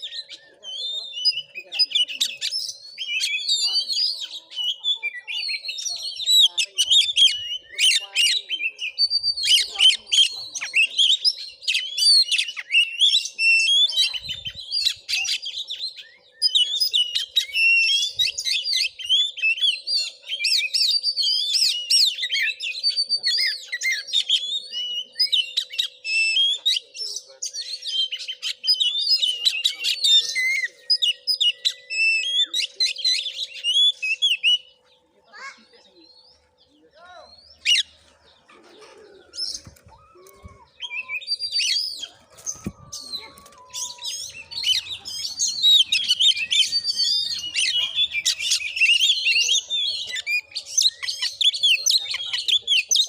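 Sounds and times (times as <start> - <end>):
bird singing varied whistles: 0.0 - 9.8, 10.6 - 34.8, 39.3 - 53.0.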